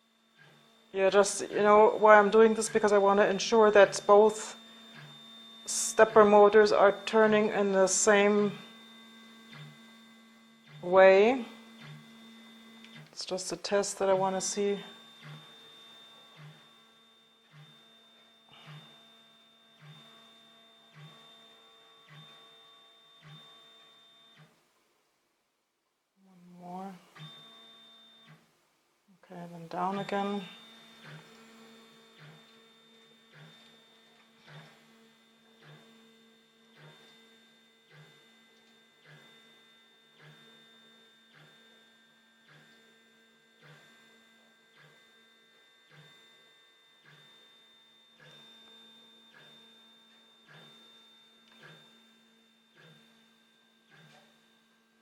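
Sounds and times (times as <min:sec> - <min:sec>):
stepper motors whining: 0:00.2 - 0:24.5, 0:29.5 - 0:54.5.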